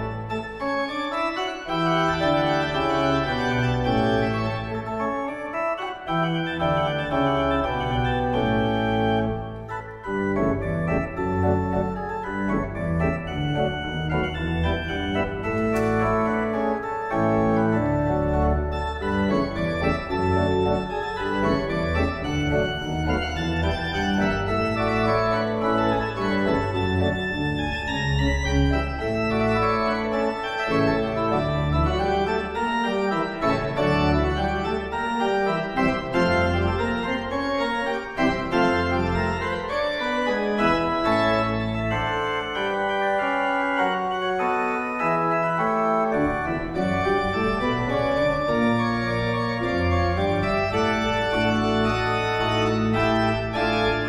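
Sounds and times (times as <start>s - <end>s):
pipe organ playing: 0.0s - 54.0s.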